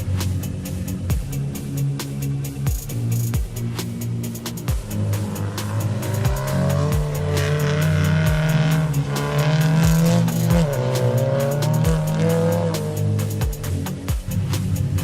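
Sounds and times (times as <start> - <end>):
music with steady beat: 0.0 - 15.0
race car engine revving: 0.0 - 15.0.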